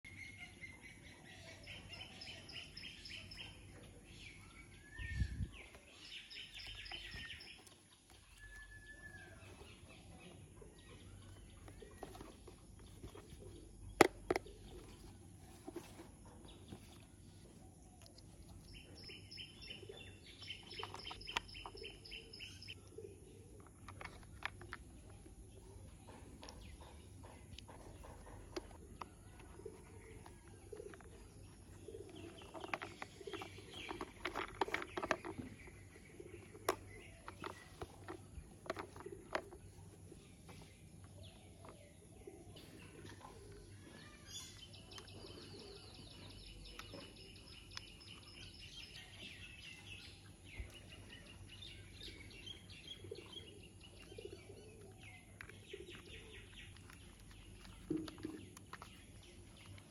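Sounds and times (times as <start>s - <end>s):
small birds chirping trills: 0.0s - 59.9s.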